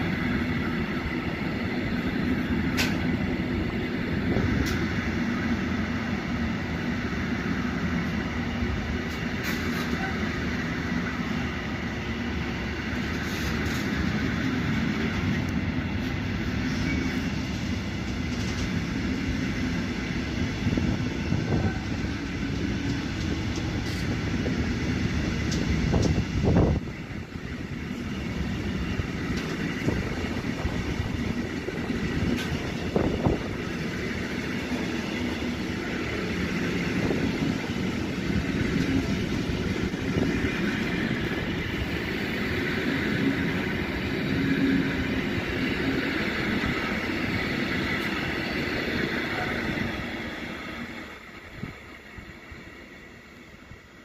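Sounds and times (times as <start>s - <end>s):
train wagon wheels rumbling on rails: 0.0s - 54.0s.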